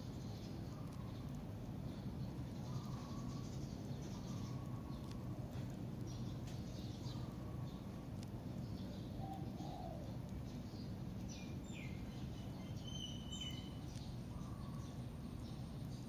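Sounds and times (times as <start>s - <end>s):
faint bird chirps: 0.0s - 16.0s
low background noise: 0.0s - 16.0s.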